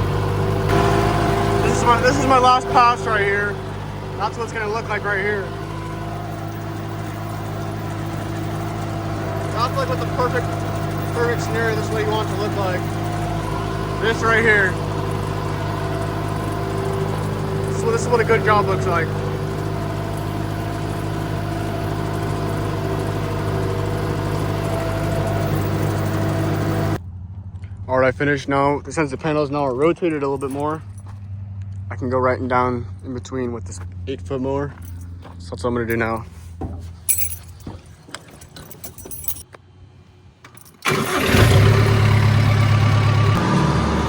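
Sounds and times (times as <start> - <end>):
tractor engine and mower running: 0.0 - 44.0.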